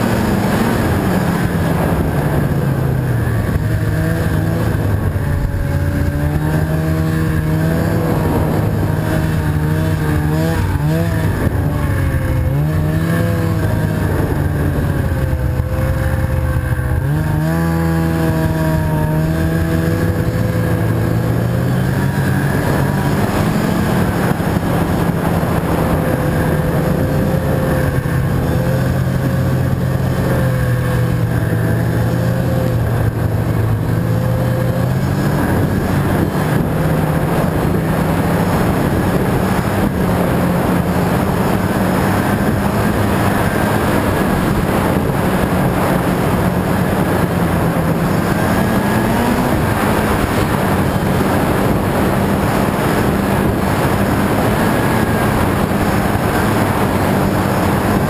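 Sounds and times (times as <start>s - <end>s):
constant rushing noise: 0.0s - 58.0s
snowmobile engine running: 0.0s - 58.0s.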